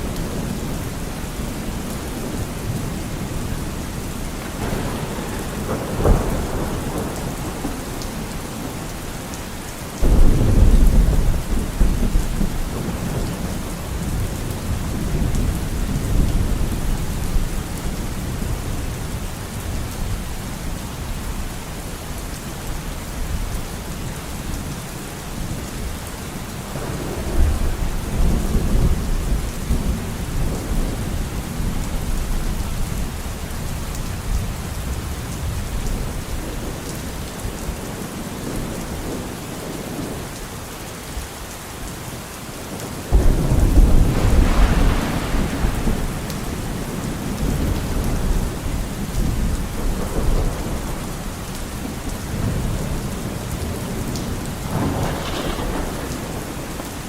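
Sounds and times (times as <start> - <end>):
thunder clap and rumble: 0.0 - 9.4, 10.0 - 21.2, 26.6 - 40.2, 42.8 - 57.0
steady rain: 0.0 - 57.0.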